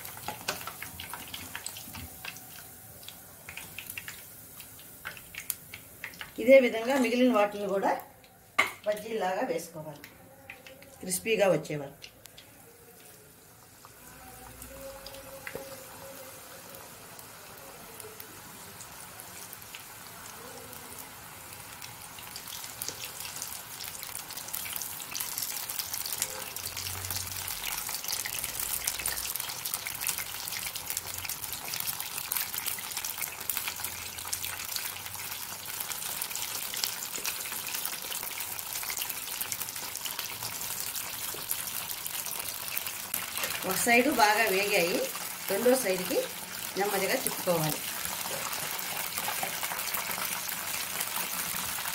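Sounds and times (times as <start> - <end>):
batter sizzling in hot oil: 0.0 - 51.9.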